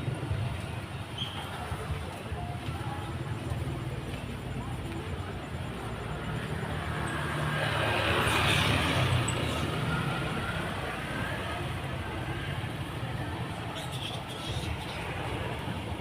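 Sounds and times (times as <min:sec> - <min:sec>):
road and traffic noise: 0:00.0 - 0:16.0.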